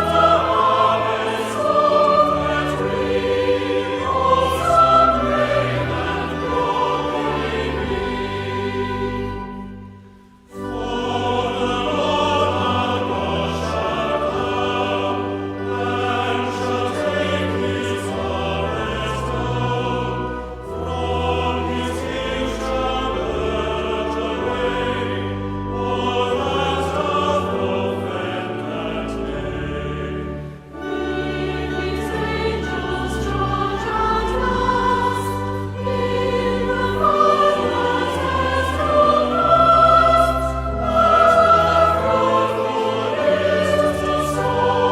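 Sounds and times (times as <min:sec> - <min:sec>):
choir singing with orchestra: 0:00.0 - 0:44.9.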